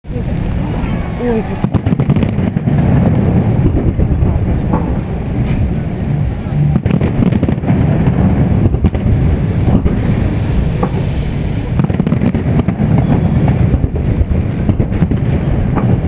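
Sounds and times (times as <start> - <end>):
fireworks booming: 0.0 - 16.0
fireworks sharp cracks: 0.1 - 16.0.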